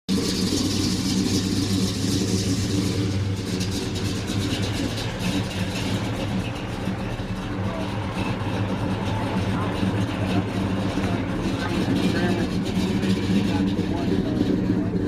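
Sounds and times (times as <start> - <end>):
vehicle engine idling: 0.1 - 15.0.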